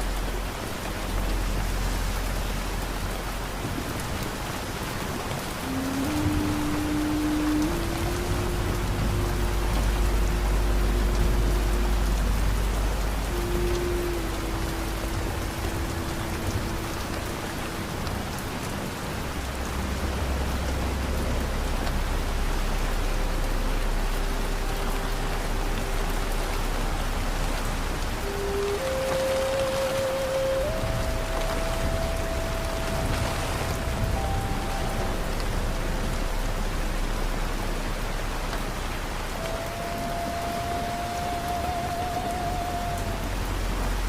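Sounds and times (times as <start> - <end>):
low drone: 0.0 - 44.0
soft slow music: 0.0 - 44.0
steady rain hiss: 0.0 - 44.0.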